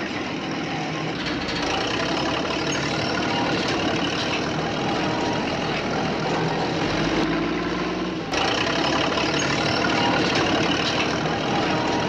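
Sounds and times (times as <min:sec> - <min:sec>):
toy bulldozer running: 0:00.0 - 0:12.0.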